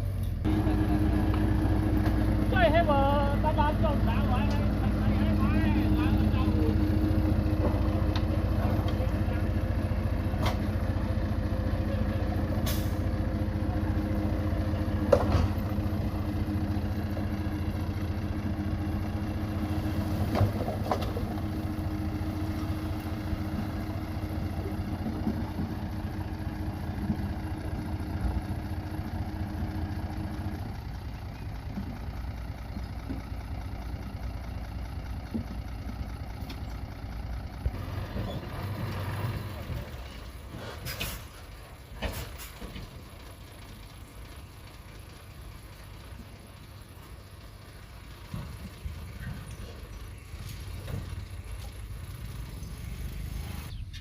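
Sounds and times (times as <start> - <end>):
diesel engine running at low revs: 0.0 - 54.0.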